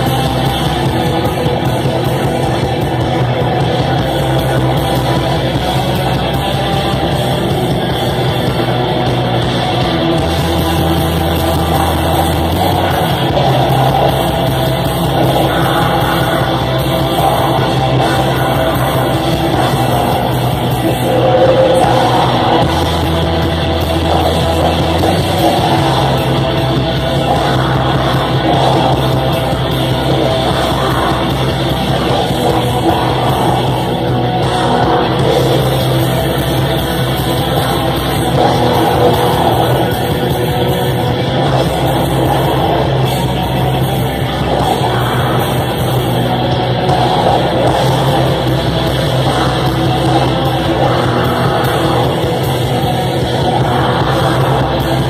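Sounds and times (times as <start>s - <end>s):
distorted electric guitars: 0.0s - 55.0s
drums: 0.0s - 55.0s.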